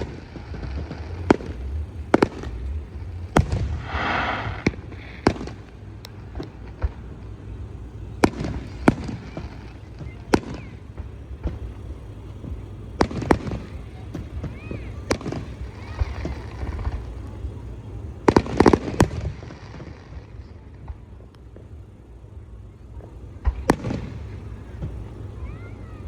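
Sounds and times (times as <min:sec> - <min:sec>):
continuous low rumble: 0:00.0 - 0:26.0
firework bangs: 0:00.0 - 0:26.0.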